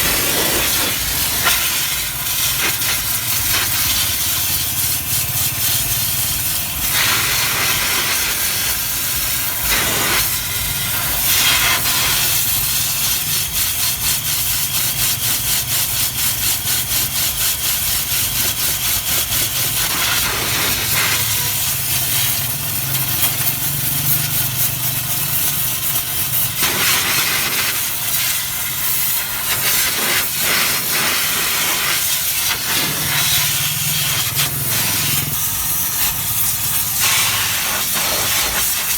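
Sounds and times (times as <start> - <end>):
brush scrubbing: 0.0 - 22.3, 25.3 - 38.9
spray cleaner hissing: 0.0 - 38.9.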